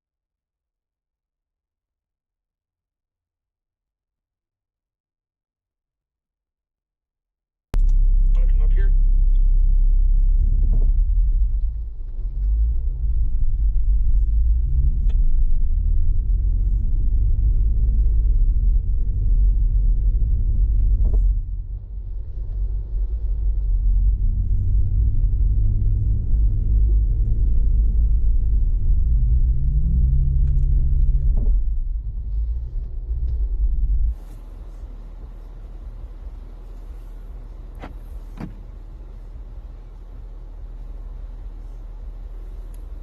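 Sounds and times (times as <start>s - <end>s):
engine revving: 7.8s - 43.0s
off-road vehicle engine rumbling: 7.8s - 43.0s.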